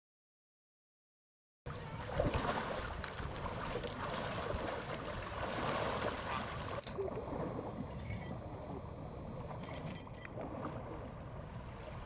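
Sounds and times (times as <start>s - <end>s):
water sloshing: 1.7s - 12.0s.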